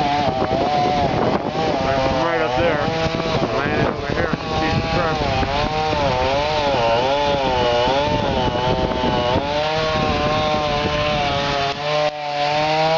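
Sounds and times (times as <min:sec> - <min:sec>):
chainsaw cutting wood: 0:00.0 - 0:12.9.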